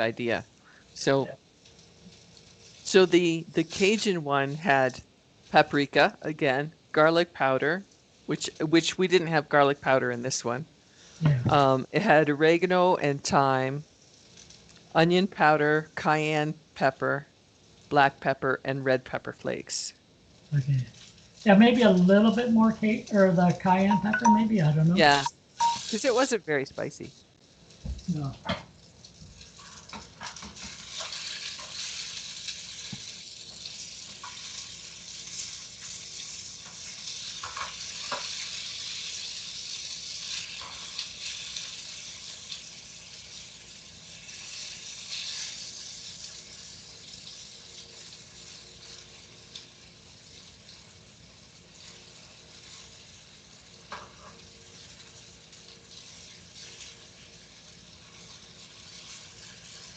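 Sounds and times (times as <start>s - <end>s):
chicken deep-frying in hot oil: 0.0s - 59.9s.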